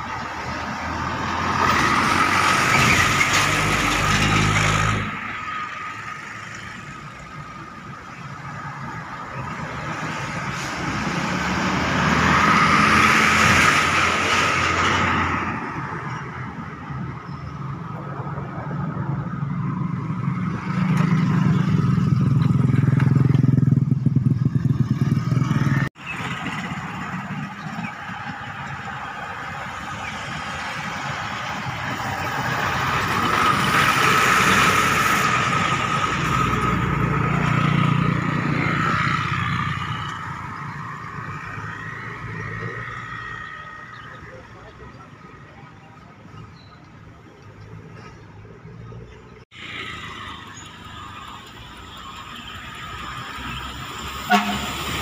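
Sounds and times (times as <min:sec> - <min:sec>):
buses driving past: 0:00.0 - 0:55.0
traffic rumble: 0:00.0 - 0:55.0.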